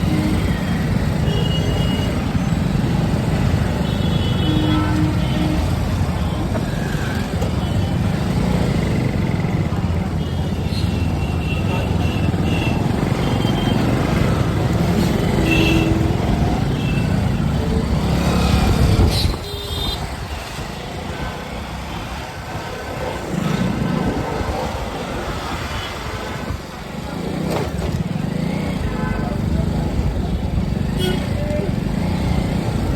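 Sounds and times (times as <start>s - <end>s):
road noise: 0.0s - 32.9s.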